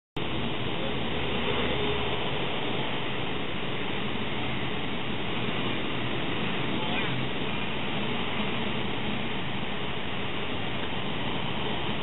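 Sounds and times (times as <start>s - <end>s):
distant propeller airplane droning: 0.2s - 12.0s
steady rushing noise: 0.2s - 12.0s.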